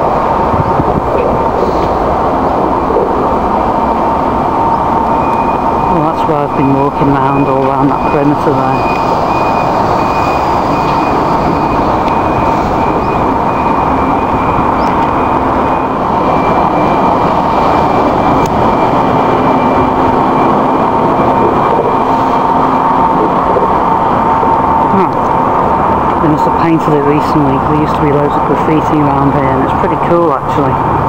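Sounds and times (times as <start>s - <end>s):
road traffic roar: 0.0s - 31.0s.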